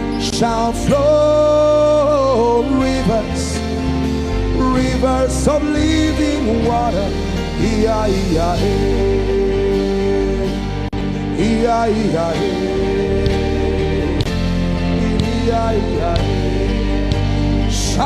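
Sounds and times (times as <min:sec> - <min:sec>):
instrumental backing music: 0:00.0 - 0:18.0.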